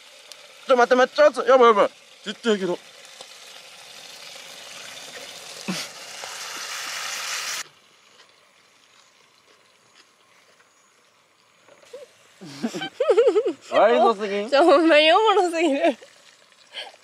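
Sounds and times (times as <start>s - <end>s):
meat sizzling: 0.0s - 14.0s.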